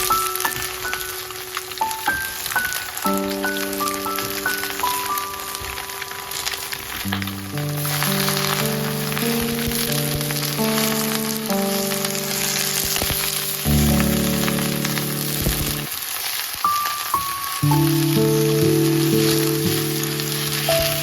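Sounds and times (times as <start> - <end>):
background music of sustained notes: 0.0 - 15.9, 17.6 - 21.0
food sizzling in hot oil: 0.0 - 21.0.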